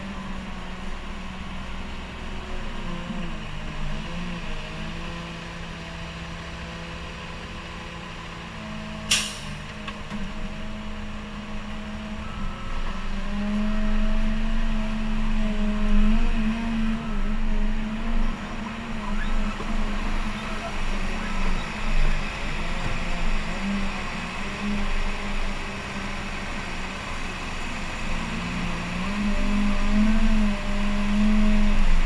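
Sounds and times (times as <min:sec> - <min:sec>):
diesel engine revving under load: 0:00.0 - 0:32.0.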